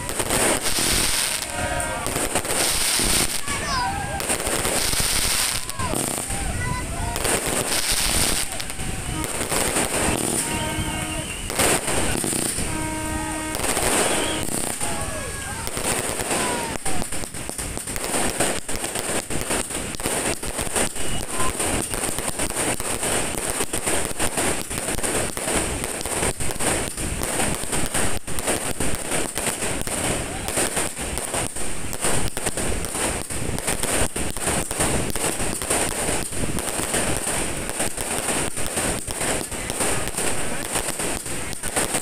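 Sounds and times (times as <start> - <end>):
fireworks popping and crackling: 0.0 - 42.0.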